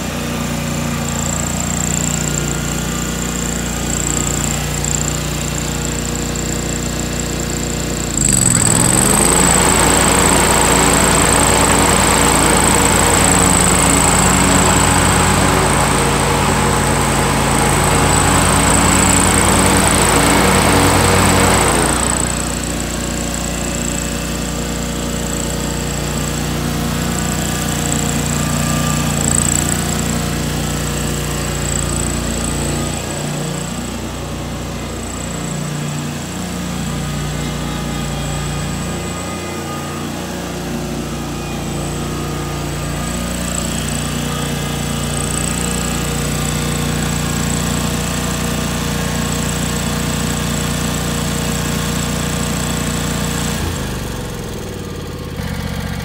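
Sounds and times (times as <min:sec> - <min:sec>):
garden tractor engine running: 0:00.0 - 0:56.0.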